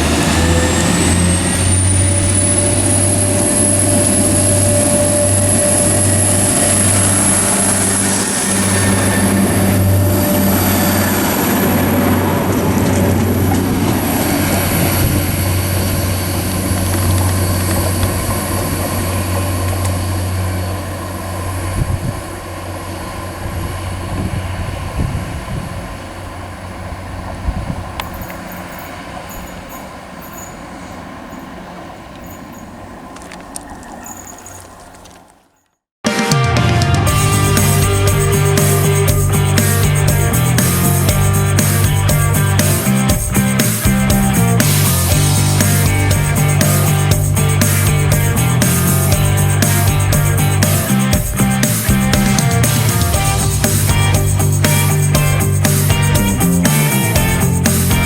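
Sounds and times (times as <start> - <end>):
high whine: 0.0 - 35.4, 36.0 - 58.0
train engine drone: 0.0 - 58.0.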